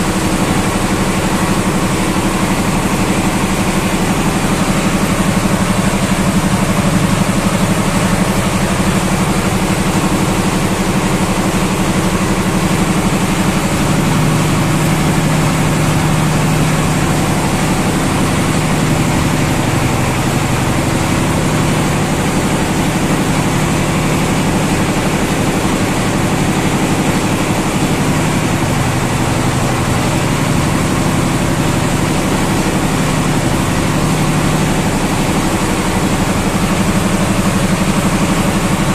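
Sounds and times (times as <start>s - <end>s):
engine running with low hum: 0.0s - 38.9s.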